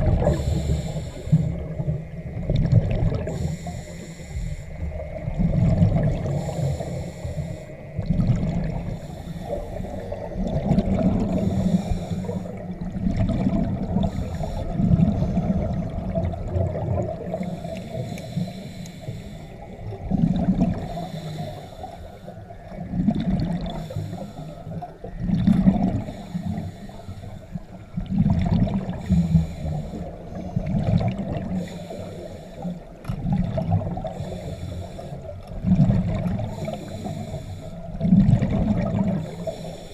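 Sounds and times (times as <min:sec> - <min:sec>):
underwater regulator breathing: 0:00.0 - 0:02.2, 0:03.1 - 0:04.9, 0:05.8 - 0:22.7, 0:23.6 - 0:24.9, 0:25.6 - 0:27.9, 0:28.8 - 0:39.9
exhaled bubbles gurgling: 0:00.0 - 0:39.9.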